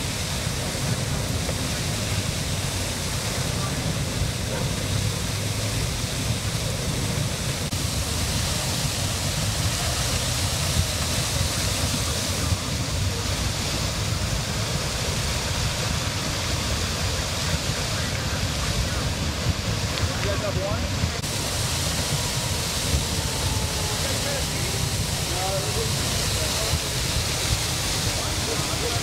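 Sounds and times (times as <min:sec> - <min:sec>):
water gushing from hydrant: 0:00.0 - 0:29.0.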